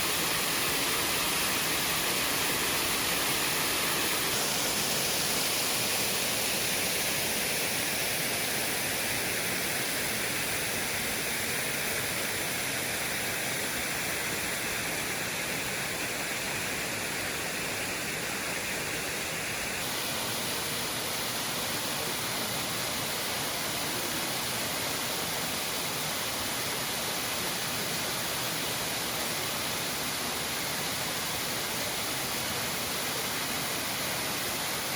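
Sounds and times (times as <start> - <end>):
waterfall pouring and splashing: 0.0 - 34.9.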